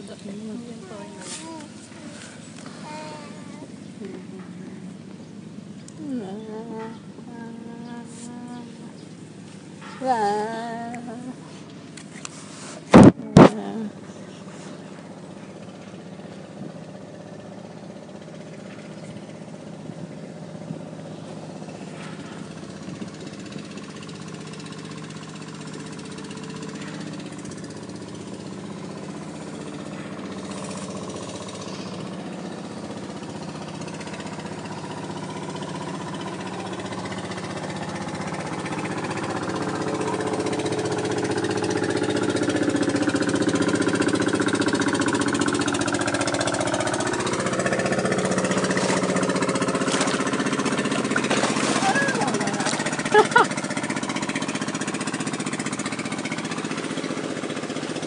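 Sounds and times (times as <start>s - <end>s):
small boat engine running: 0.0s - 58.0s.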